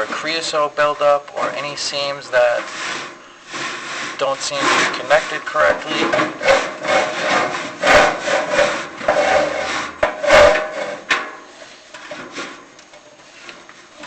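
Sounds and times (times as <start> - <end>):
camera scraping inside metal flue: 0.0 - 14.0.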